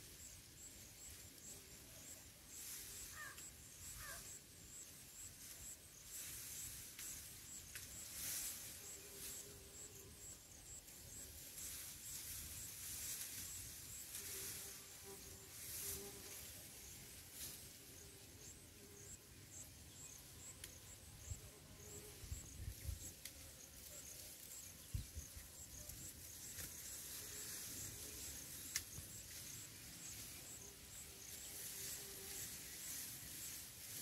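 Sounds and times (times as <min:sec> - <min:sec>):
insect chirping: 0:00.0 - 0:33.8
faint field ambience: 0:00.0 - 0:34.0.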